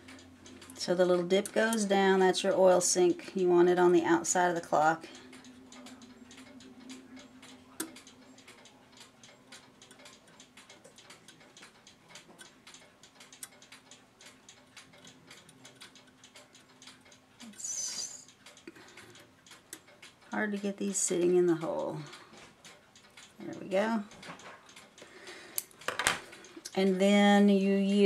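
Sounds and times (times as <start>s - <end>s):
clock ticking: 0.0s - 28.0s
low steady hum: 0.0s - 28.0s.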